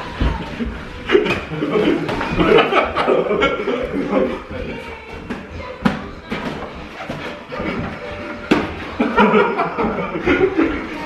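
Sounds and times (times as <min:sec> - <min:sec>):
people talking and chuckling: 0:00.0 - 0:11.0.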